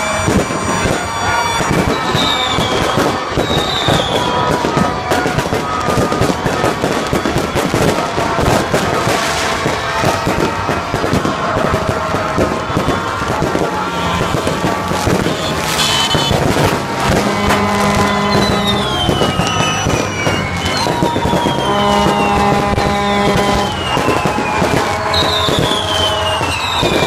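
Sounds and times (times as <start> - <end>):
long steady notes: 0.0 - 26.8
fireworks cracking and banging: 0.0 - 27.0
fireworks whistling: 0.0 - 27.0.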